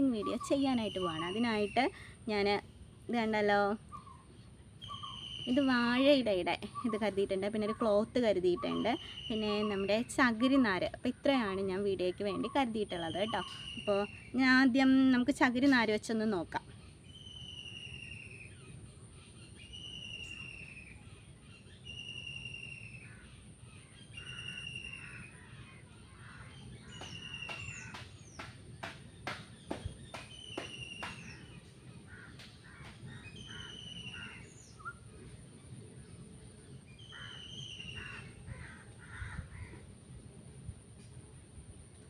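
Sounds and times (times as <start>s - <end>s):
bird calling: 0.0s - 2.5s, 3.2s - 10.8s, 11.7s - 14.5s, 16.6s - 35.4s, 36.9s - 39.9s.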